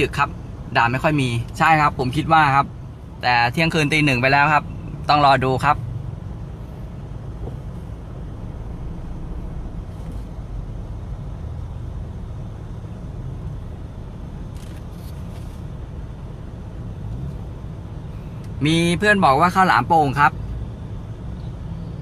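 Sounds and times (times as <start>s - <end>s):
low rumble of car engine and road: 0.0s - 22.0s.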